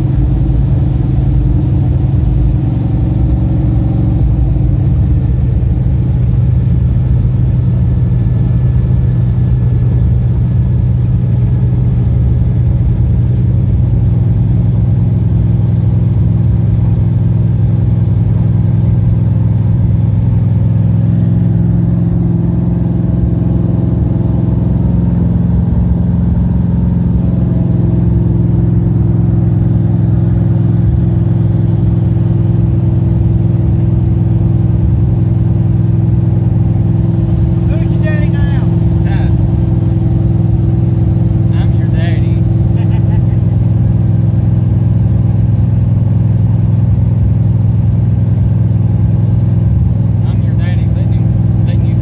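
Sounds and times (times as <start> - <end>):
car engine running loud: 0.0 - 52.0.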